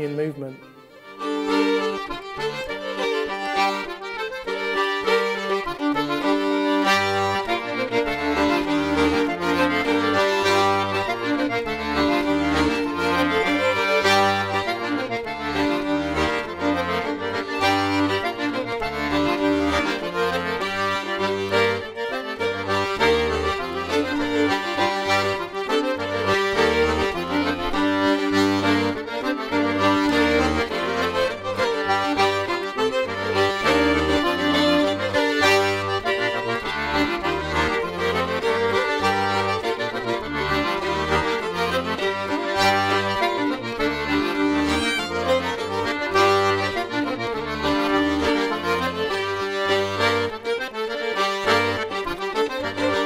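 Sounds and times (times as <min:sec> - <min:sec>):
accordion folk tune: 0:00.0 - 0:53.0.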